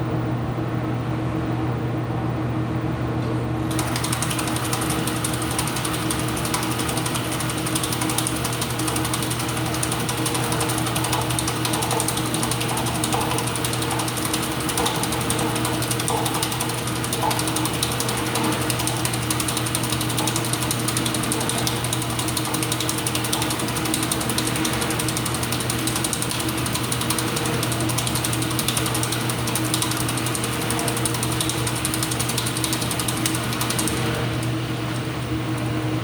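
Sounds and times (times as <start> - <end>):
washing machine motor hum: 0.0 - 36.0
fast ratcheting clicking: 3.7 - 34.6.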